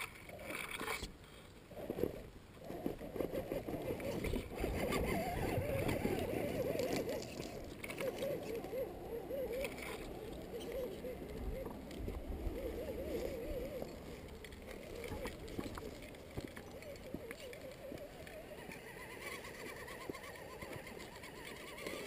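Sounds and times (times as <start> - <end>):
electric motor and gearbox whining: 2.8 - 22.0.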